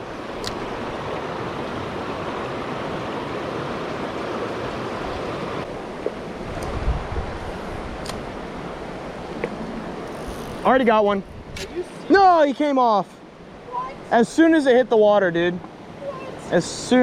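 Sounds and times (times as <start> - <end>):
creek water over rocks: 0.0 - 17.0.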